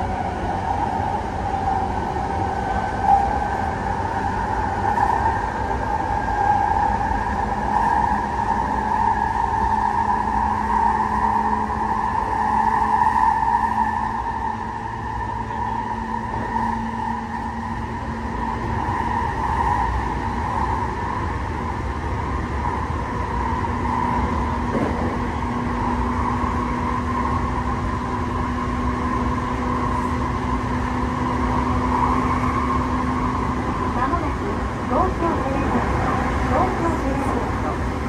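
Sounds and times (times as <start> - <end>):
train wheels roaring on rail: 0.0 - 38.0.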